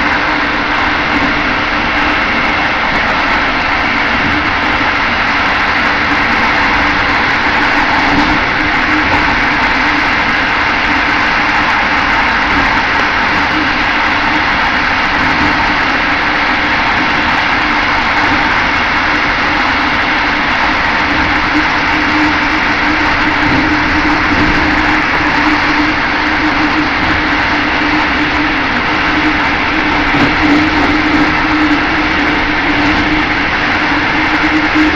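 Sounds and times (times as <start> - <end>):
steady low hum: 0.0 - 34.9
train wheels rolling on rails: 0.0 - 34.9.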